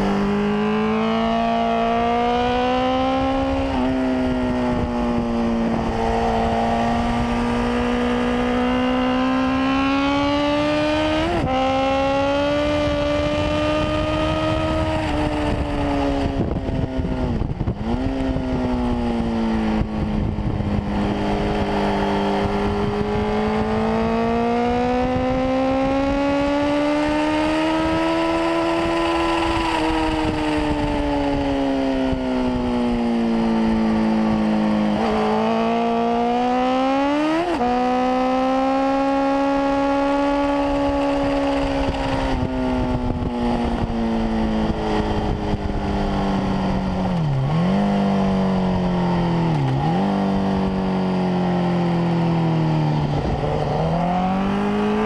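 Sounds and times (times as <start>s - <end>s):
motorcycle engine at full pace: 0.0s - 55.0s.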